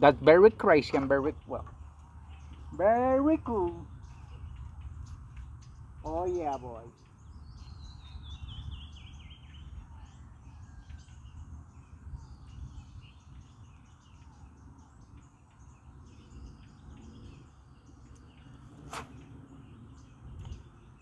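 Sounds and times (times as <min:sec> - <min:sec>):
small birds chirping: 0:00.0 - 0:21.0
wind rumble on microphone: 0:01.4 - 0:21.0.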